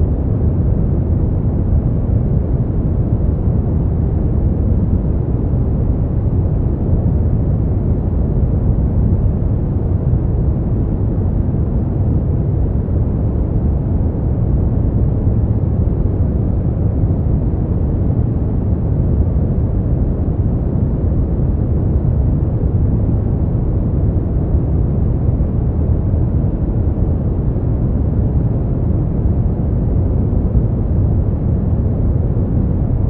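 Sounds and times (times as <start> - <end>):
deep rumbling brown noise: 0.0 - 33.0.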